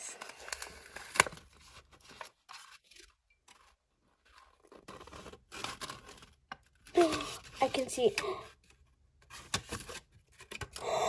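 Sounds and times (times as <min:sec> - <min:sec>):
paper rustling and crinkling: 0:00.0 - 0:10.8.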